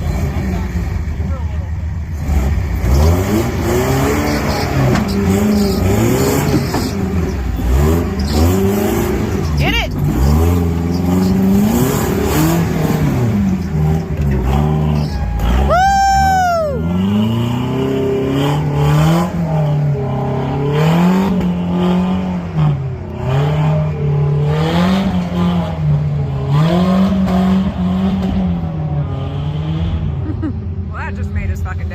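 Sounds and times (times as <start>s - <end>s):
engine running under varying load: 0.0s - 31.9s.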